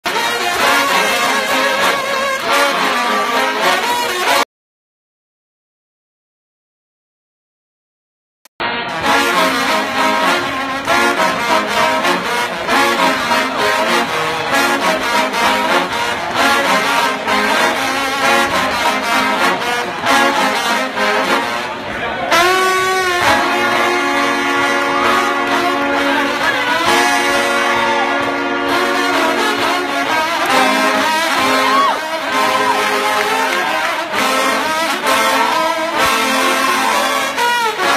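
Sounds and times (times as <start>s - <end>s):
trombone bending notes: 0.0s - 4.4s, 8.6s - 37.9s.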